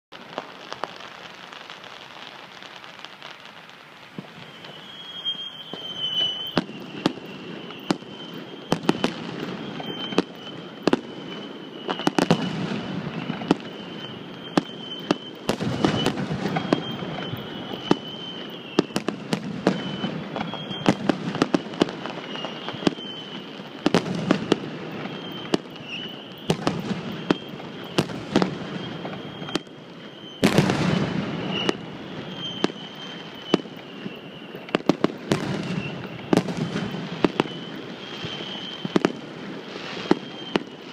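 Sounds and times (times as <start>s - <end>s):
fireworks bursting: 0.1s - 40.9s.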